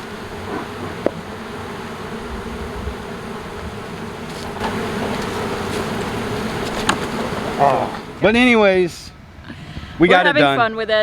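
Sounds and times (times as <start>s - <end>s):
bees buzzing: 0.0s - 9.4s.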